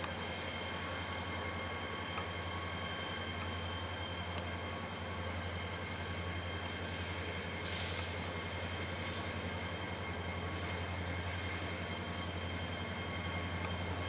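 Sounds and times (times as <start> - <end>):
locomotive engine rumble: 0.0 - 14.0.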